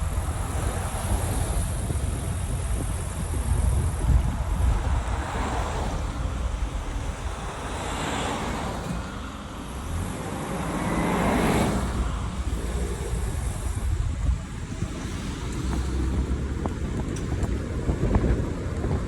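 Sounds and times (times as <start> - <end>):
low traffic rumble: 0.0 - 19.0
vehicles passing: 0.0 - 19.0.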